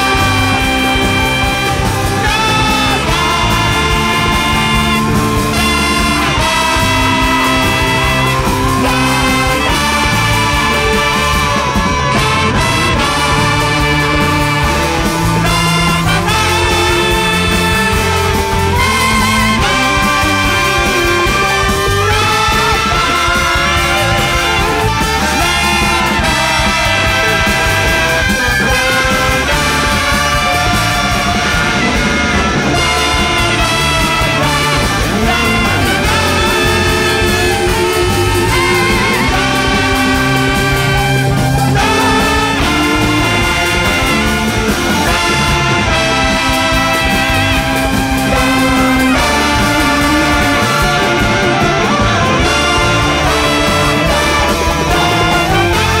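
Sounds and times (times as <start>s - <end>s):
bass: 0.0s - 56.0s
brass and saxophone section: 0.0s - 56.0s
drums: 0.0s - 56.0s
jazz big band playing: 0.0s - 56.0s.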